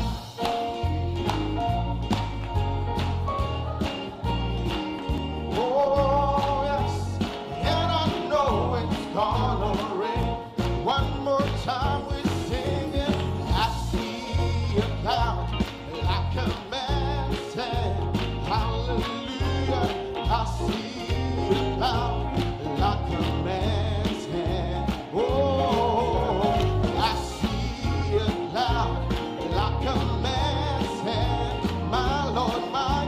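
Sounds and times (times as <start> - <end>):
country gospel band music: 0.0 - 33.0.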